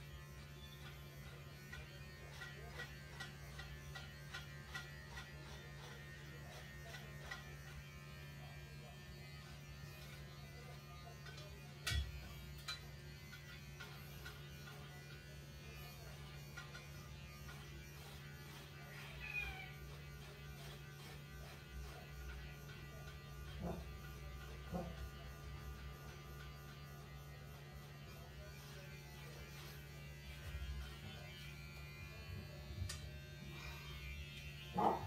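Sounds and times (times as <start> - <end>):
electric hair clippers buzzing: 0.0 - 35.0.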